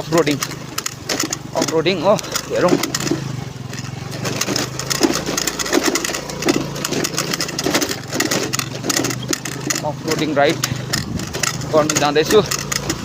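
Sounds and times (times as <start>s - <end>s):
small motorcycle engine running: 0.0s - 13.0s
tyres crunching and rattling: 0.0s - 13.0s.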